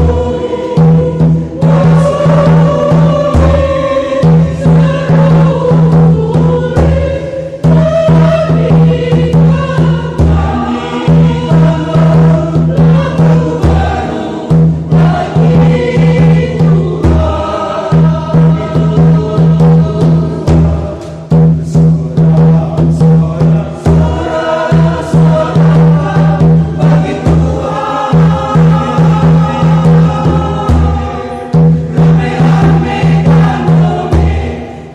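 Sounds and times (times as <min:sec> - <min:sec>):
choir singing: 0:00.0 - 0:34.9
drum beating steady rhythm: 0:00.0 - 0:34.9.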